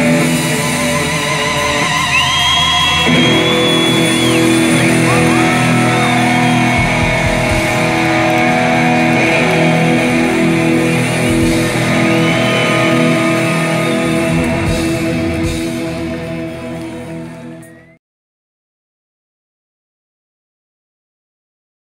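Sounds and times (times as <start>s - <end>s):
lead electric guitar with bent notes: 0.0s - 18.0s
live rock band: 0.0s - 18.0s.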